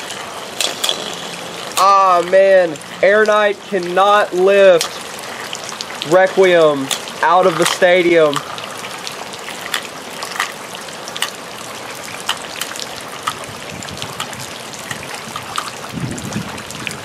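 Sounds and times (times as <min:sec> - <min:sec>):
rain falling: 0:00.0 - 0:17.0
raindrops ticking on surfaces: 0:00.0 - 0:17.0.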